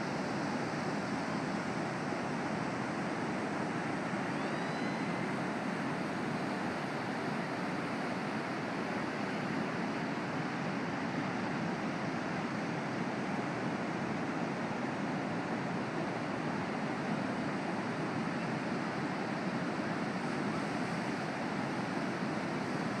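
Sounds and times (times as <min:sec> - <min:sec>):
ocean surf roar: 0:00.0 - 0:23.0.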